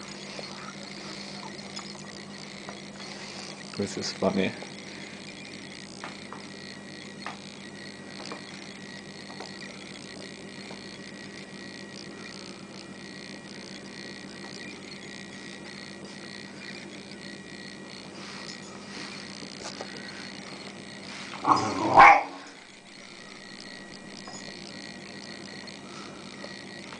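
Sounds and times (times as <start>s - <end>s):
background hum and hiss: 0.0s - 26.9s.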